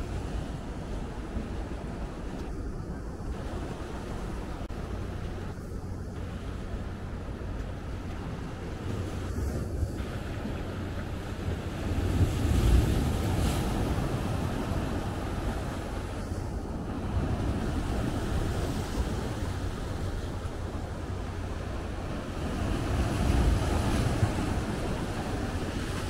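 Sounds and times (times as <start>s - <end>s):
sea surf: 0.0s - 26.0s
wind buffeting microphone: 0.0s - 26.0s.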